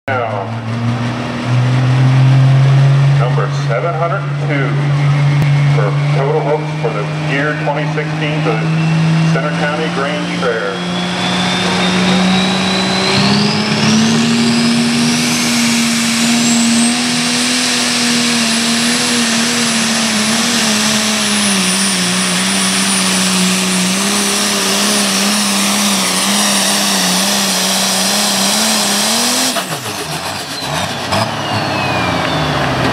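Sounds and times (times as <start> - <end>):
tractor engine at full throttle: 0.0 - 32.9
high whine: 0.1 - 32.9.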